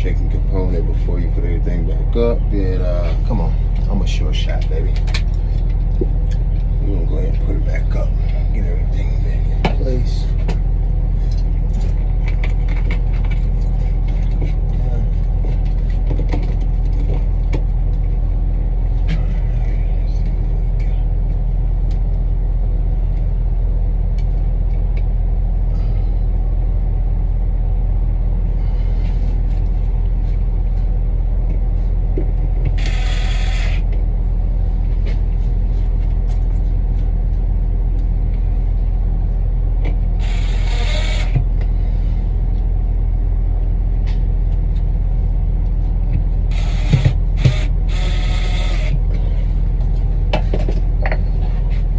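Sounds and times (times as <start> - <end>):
low engine-like drone: 0.0 - 51.9.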